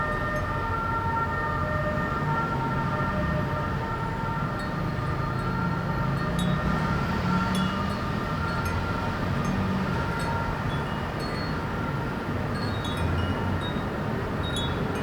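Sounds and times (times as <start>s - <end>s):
low hum of city traffic: 0.0s - 15.0s.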